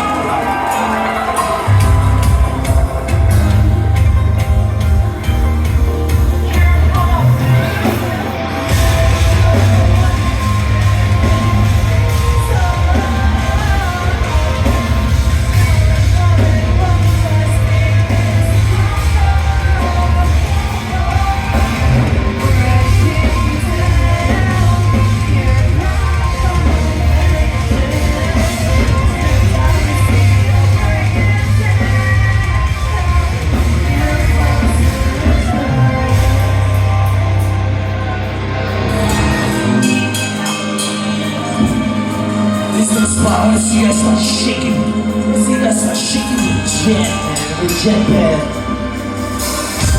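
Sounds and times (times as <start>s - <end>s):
rock band playing live: 0.0s - 49.9s
sung shouted vocals: 0.0s - 49.9s.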